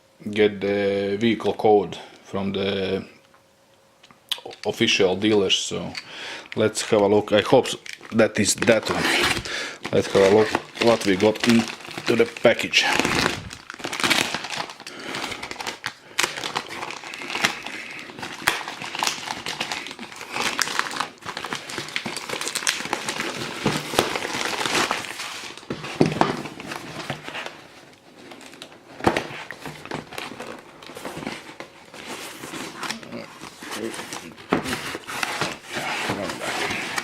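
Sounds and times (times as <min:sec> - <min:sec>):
wrapping crinkling and rustling: 0:04.4 - 0:37.0.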